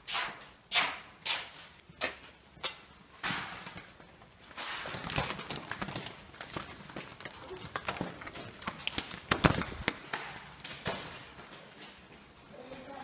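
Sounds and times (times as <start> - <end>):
footsteps on debris: 0.9 - 12.9.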